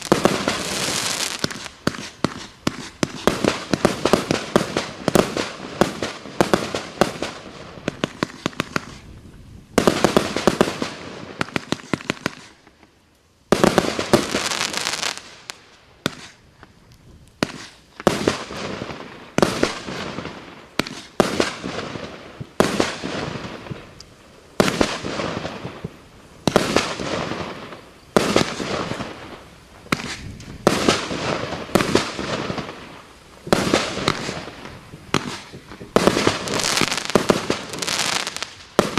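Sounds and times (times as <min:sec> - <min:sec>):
fireworks cake firing: 0:00.0 - 0:38.9.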